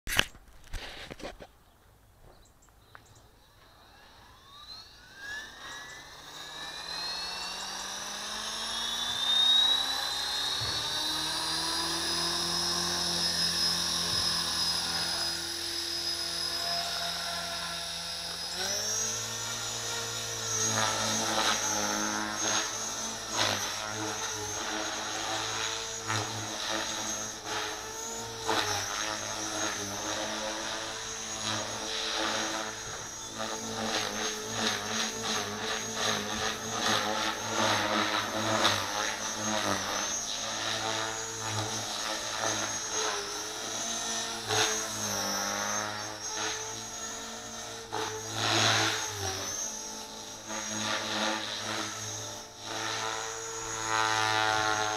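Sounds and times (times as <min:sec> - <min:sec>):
rc helicopter motor whine: 0:00.1 - 0:54.9.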